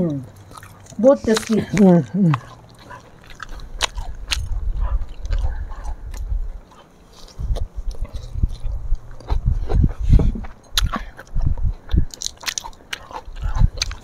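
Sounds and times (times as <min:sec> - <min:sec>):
people biting and chewing food: 0:00.0 - 0:14.0.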